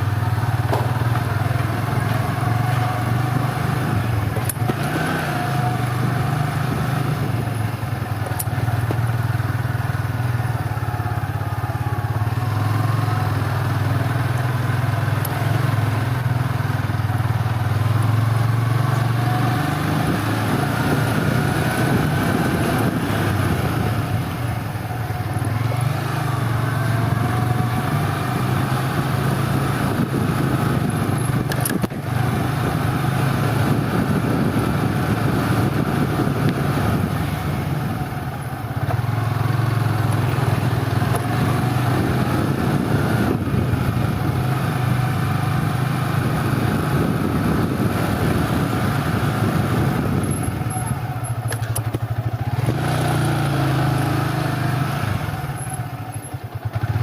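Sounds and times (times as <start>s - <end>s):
road and wind noise: 0.0s - 57.0s
vehicle engine droning: 0.0s - 57.0s.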